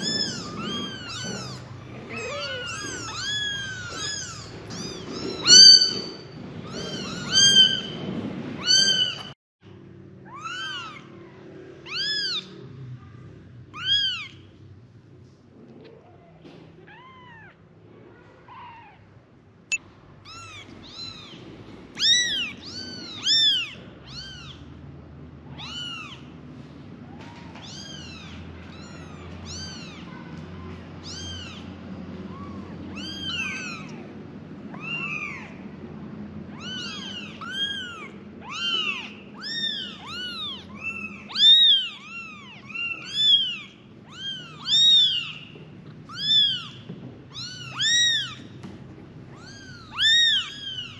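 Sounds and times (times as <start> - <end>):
kittens mewing: 0.0 - 9.4, 10.2 - 12.8, 13.7 - 14.6, 20.2 - 26.4, 27.0 - 35.7, 36.4 - 50.9.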